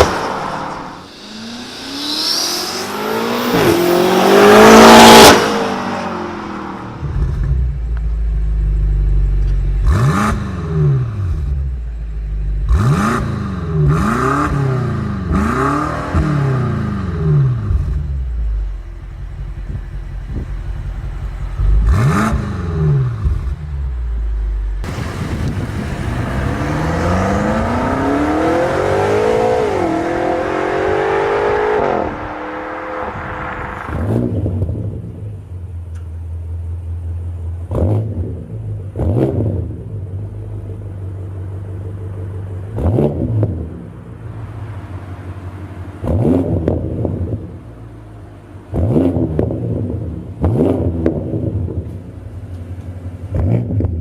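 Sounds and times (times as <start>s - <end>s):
car exhaust revving: 0.0s - 35.8s, 37.6s - 52.4s.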